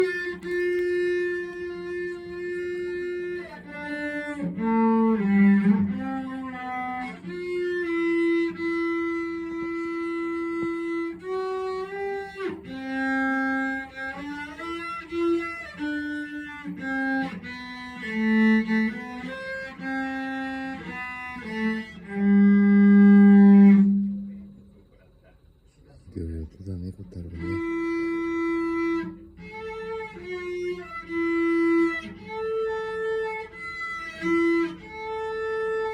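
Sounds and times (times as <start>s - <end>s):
bowed cello melody: 0.0s - 24.7s, 26.2s - 35.9s.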